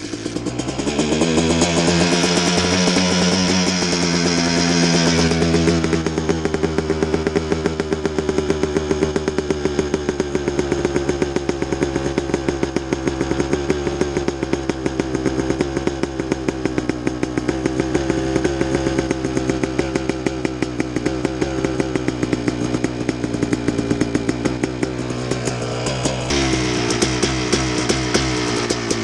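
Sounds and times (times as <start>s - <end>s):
two-stroke engine idling: 0.0s - 29.0s.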